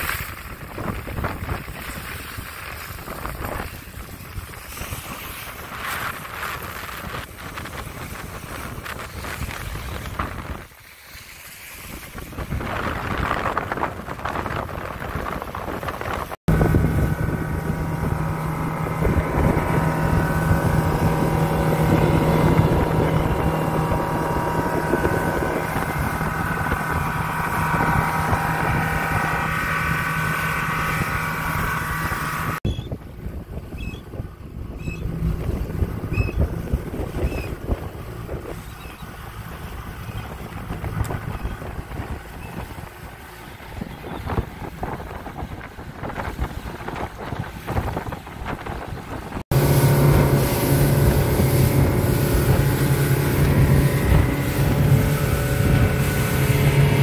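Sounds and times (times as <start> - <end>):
motorboat engine running: 0.0 - 57.0
water rushing: 0.0 - 57.0
wind on microphone: 0.0 - 57.0.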